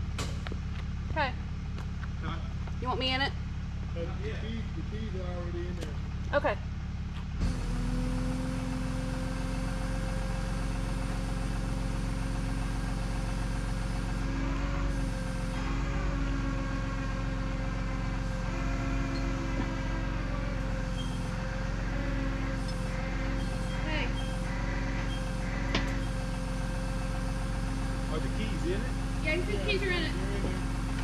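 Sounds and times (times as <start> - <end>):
steady whine: 0.0 - 31.0
truck engine humming: 0.0 - 31.0.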